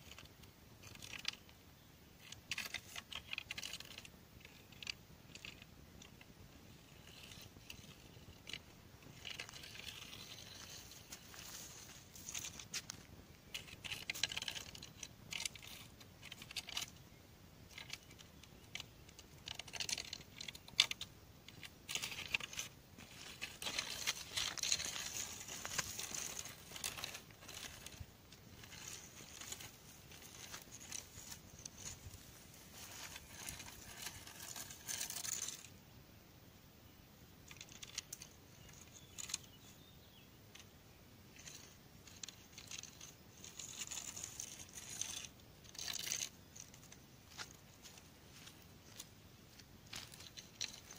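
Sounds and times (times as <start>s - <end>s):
faint rustling: 2.2s - 35.8s, 37.4s - 50.9s.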